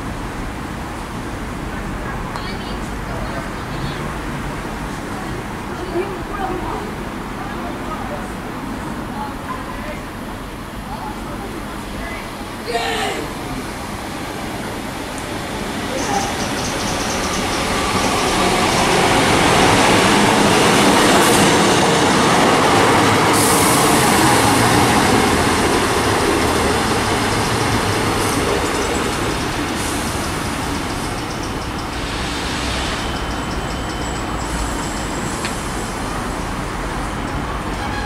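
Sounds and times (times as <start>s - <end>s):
diesel railcar running past: 0.0s - 38.0s.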